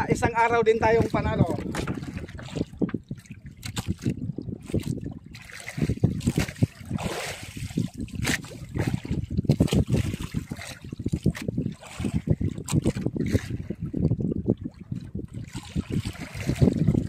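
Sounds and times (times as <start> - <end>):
water slapping against boat hull: 0.0 - 17.0
wind buffeting microphone: 0.0 - 17.0.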